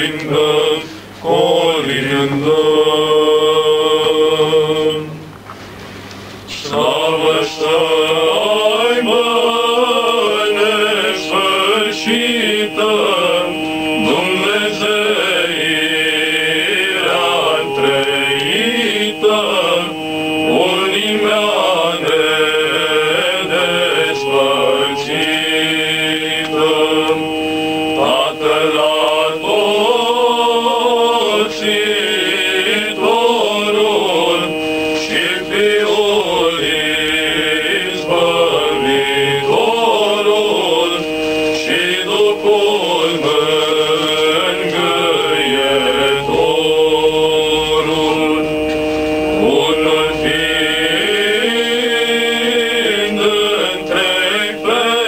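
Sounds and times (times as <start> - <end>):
male choir singing a carol: 0.0 - 5.3, 6.4 - 55.0
held low drone note: 6.5 - 55.0.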